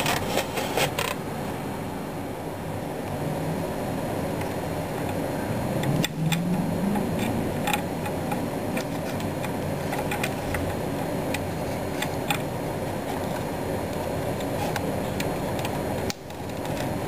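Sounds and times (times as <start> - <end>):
low background rumble: 1.2 - 17.0.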